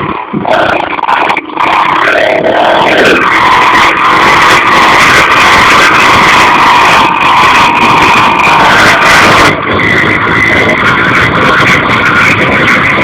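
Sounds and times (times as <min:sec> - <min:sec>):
loud vehicle engine running: 0:00.0 - 0:13.0.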